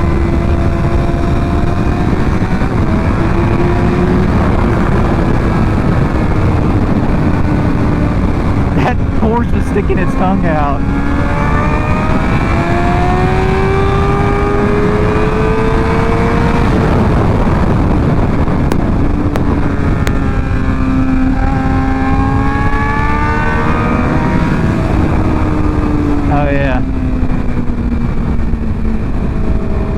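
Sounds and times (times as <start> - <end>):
motorcycle engine accelerating: 0.0 - 29.9
wind rush: 0.0 - 29.9.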